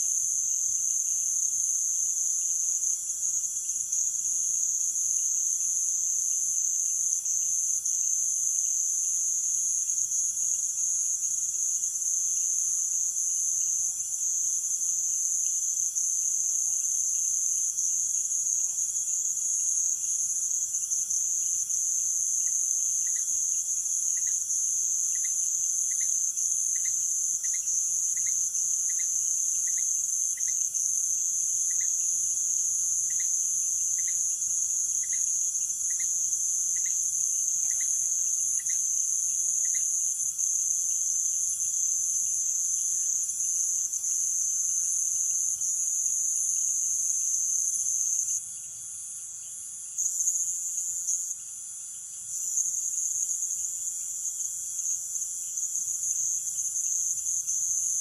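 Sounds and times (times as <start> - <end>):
crickets and insects chorus: 0.0 - 58.0.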